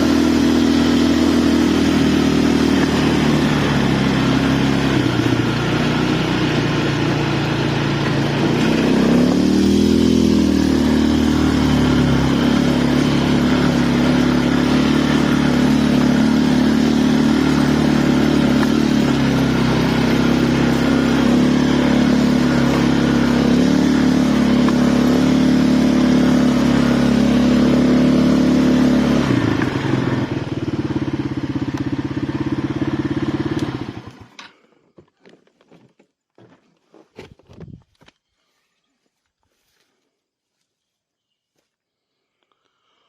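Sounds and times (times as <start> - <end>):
atv engine running: 0.0 - 34.6.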